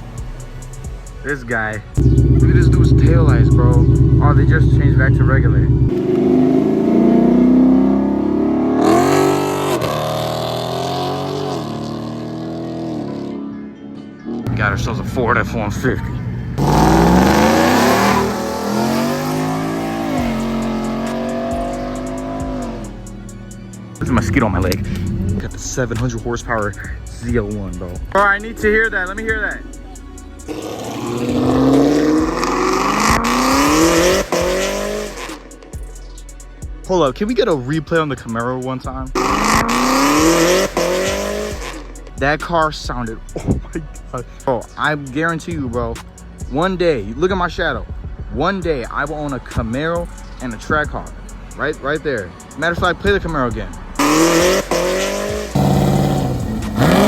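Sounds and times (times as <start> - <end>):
car engine revving: 0.0 - 13.6, 14.3 - 46.5, 48.8 - 57.0.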